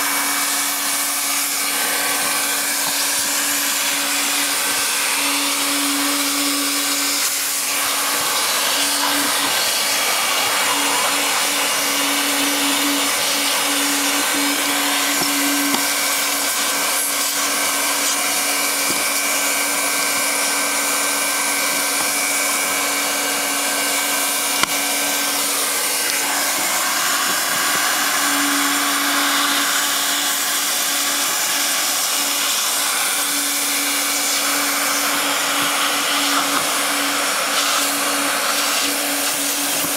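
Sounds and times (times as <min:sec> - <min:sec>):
hot-air welding gun blowing: 0:00.0 - 0:39.9
motor hum: 0:00.0 - 0:39.9.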